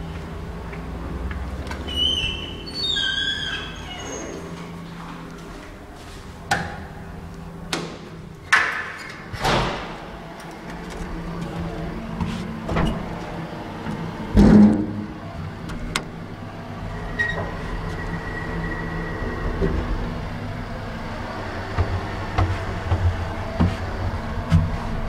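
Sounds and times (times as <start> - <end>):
steady low hum: 3.8 - 25.0.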